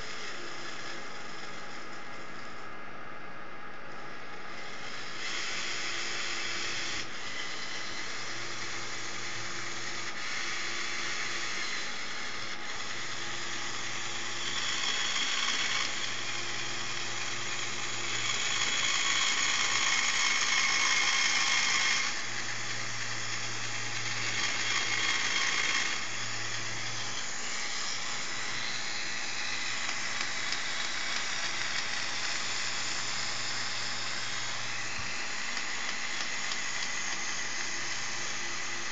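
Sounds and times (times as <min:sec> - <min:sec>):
toy motor whirring plastic gears: 0:00.0 - 0:02.6, 0:04.0 - 0:38.9.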